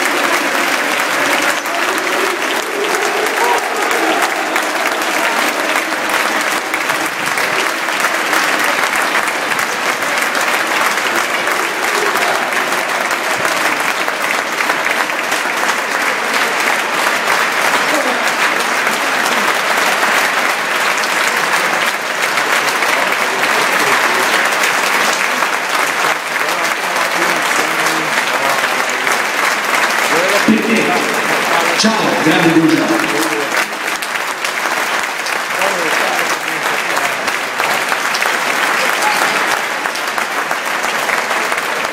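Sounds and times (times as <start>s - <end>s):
crowd applauding: 0.0s - 41.9s
spectators' voices: 0.0s - 41.9s.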